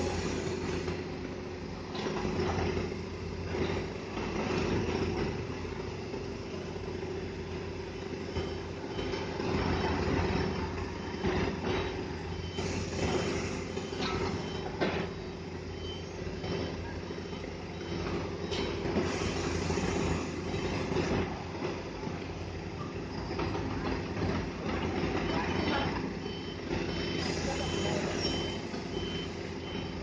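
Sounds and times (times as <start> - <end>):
heavy diesel engine under load: 0.0 - 30.0.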